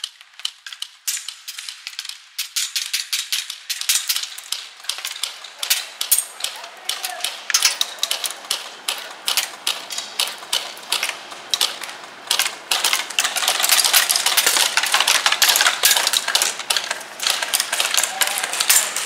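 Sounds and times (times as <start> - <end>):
pellets striking: 0.0 - 19.0
airsoft guns firing: 1.0 - 19.0.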